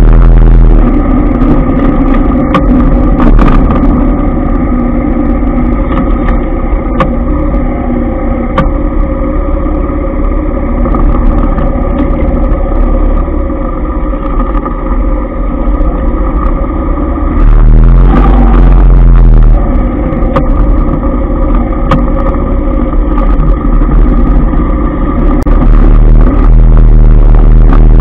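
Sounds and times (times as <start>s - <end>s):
scooter and car traffic: 0.0s - 28.0s.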